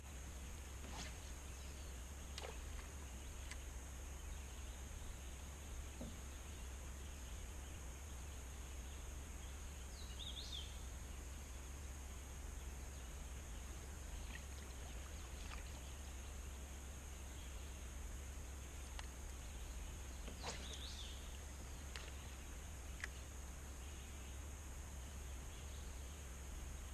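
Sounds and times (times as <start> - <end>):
low hum: 0.0 - 26.9
bird chirp: 0.8 - 26.9.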